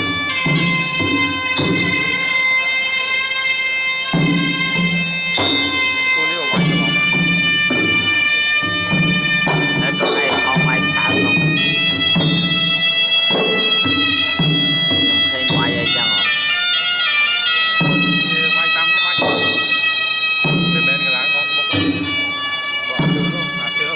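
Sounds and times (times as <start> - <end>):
hand-drum beats: 0.0 - 2.9, 3.5 - 23.9
shrill reed pipe notes: 0.0 - 23.9.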